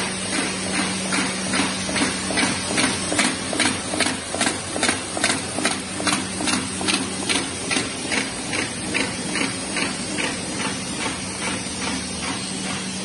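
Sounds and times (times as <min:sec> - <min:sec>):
machine mechanism clacking: 0:00.0 - 0:13.0
motor hum and hiss: 0:00.0 - 0:13.0.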